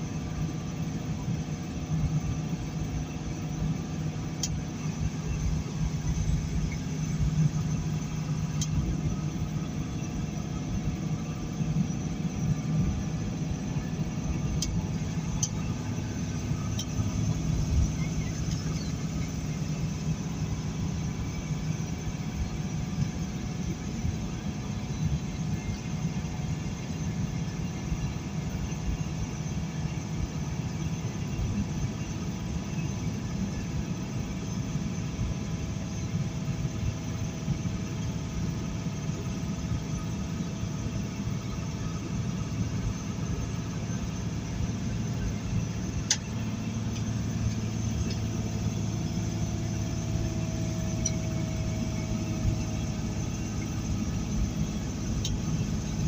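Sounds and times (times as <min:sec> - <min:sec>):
truck engine and road noise: 0:00.0 - 0:56.0.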